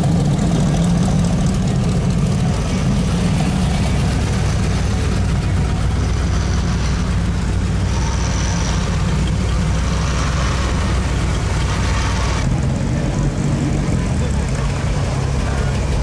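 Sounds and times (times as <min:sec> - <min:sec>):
car engine running low: 0:00.0 - 0:16.0
other car engines: 0:00.0 - 0:16.0.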